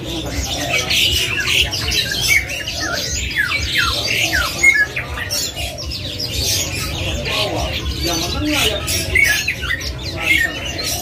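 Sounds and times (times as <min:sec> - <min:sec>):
songbirds squawking and chirping: 0:00.0 - 0:11.0.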